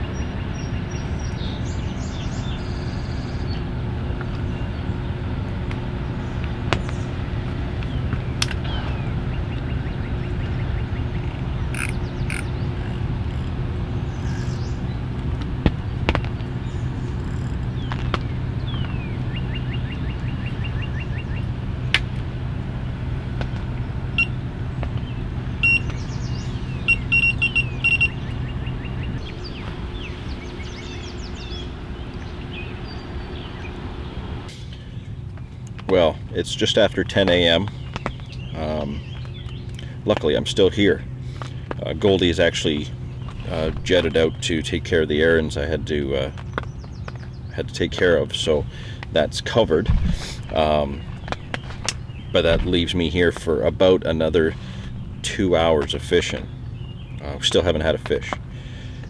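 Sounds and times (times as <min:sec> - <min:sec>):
birds chirping and trilling: 0:00.0 - 0:59.0
distant motor hum: 0:00.0 - 0:59.0.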